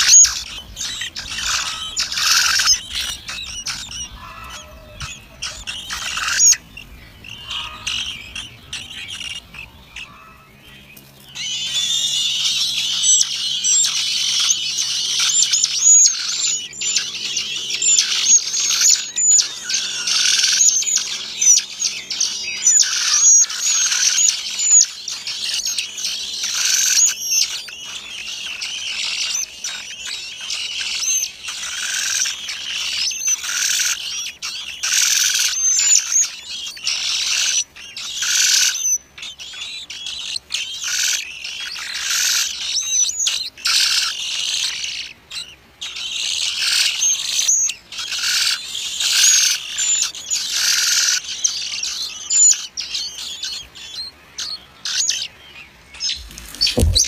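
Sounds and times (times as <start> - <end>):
nestlings begging calls: 0.0 - 57.0.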